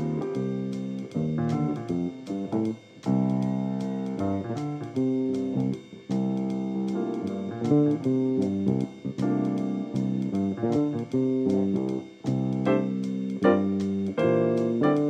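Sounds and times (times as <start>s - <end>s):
bass line: 0.0s - 15.0s
piano chords: 0.0s - 15.0s.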